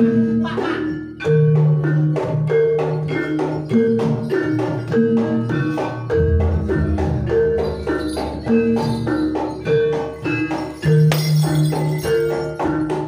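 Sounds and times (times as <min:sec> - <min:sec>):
metallophones striking melody: 0:00.0 - 0:13.0.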